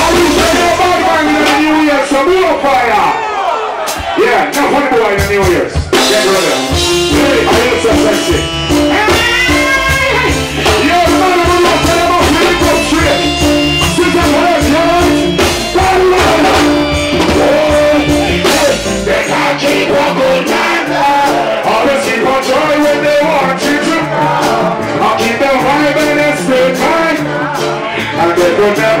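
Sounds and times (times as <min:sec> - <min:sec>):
man singing into microphone: 0:00.0 - 0:02.0, 0:06.0 - 0:29.0
reggae band playing: 0:00.0 - 0:29.0.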